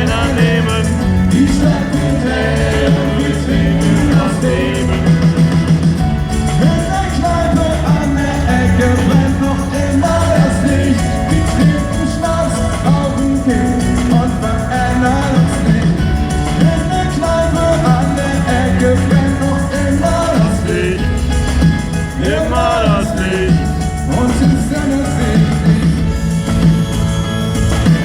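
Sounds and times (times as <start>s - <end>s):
person singing: 0.0s - 5.8s, 6.4s - 26.5s
bass line: 0.0s - 28.0s
drums: 0.0s - 28.0s.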